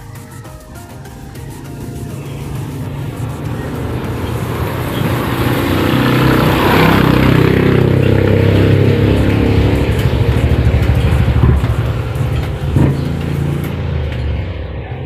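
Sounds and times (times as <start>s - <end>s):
engine rumble: 0.0s - 15.0s.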